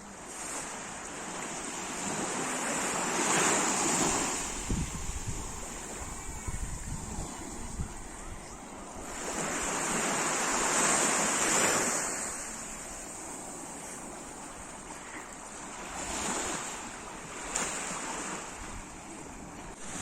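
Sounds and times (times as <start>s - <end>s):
sea waves breaking: 0.0s - 20.0s.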